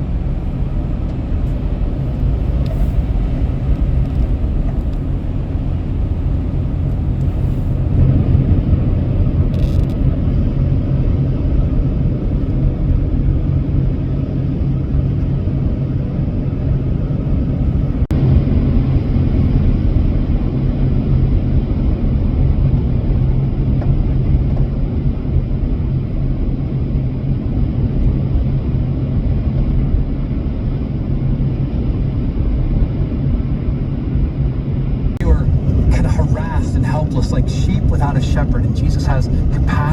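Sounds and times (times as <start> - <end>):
car driving interior rumble: 0.0 - 39.9.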